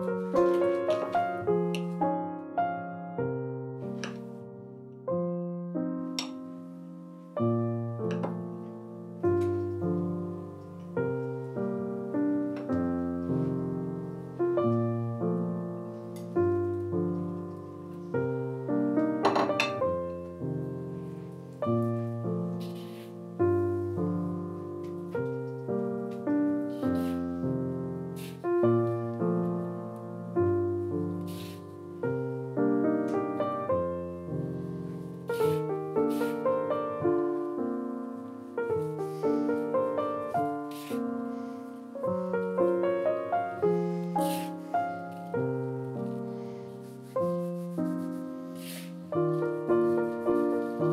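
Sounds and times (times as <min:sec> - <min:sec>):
slow solo piano chords: 0:00.0 - 0:50.9.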